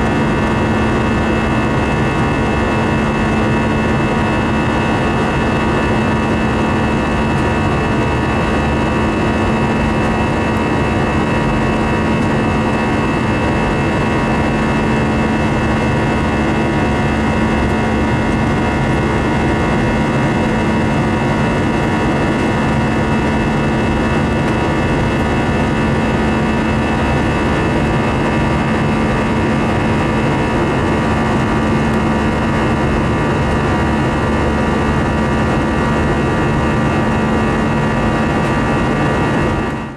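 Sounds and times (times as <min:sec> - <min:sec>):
jet engine and airflow roar: 0:00.0 - 0:39.9
steady low hum: 0:00.0 - 0:39.9.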